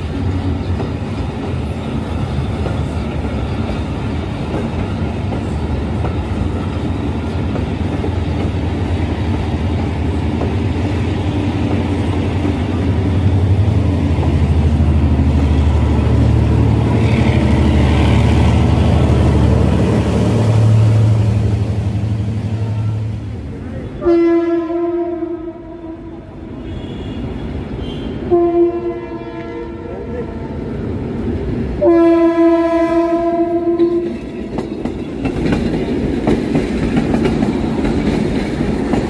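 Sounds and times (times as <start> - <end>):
diesel locomotive engine drone: 0.0 - 39.0
passenger train rumbling past: 0.0 - 39.0.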